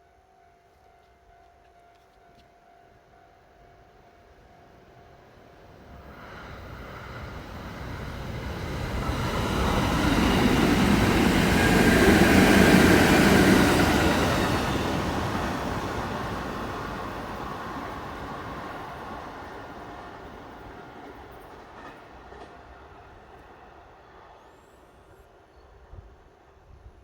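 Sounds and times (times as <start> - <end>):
electric train passing: 3.0 - 25.9.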